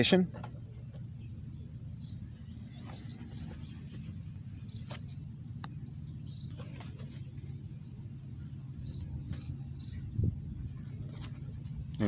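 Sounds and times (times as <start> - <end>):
low rumble: 0.6 - 12.0.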